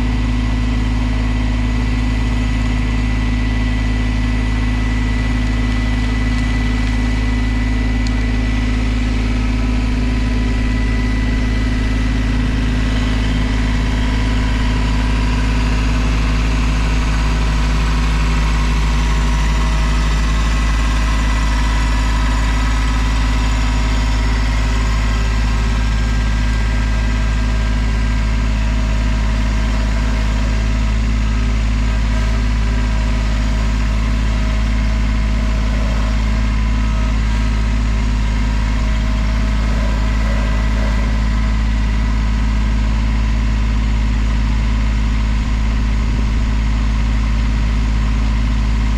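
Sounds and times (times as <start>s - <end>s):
large engine running steadily: 0.0s - 48.9s.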